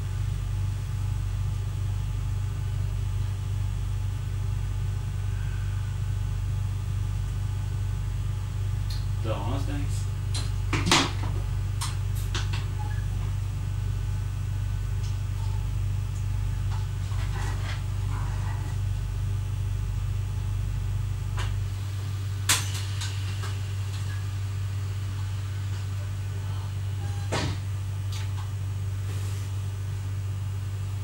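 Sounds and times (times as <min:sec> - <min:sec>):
electrical hum in train cab: 0:00.0 - 0:31.0.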